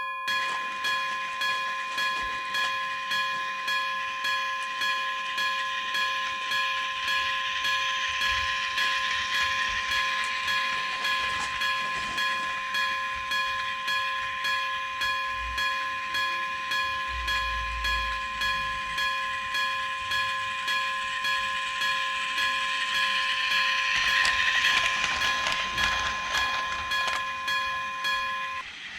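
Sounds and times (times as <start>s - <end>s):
railroad crossing bell ringing: 0.0s - 28.7s
train passing: 0.3s - 28.9s.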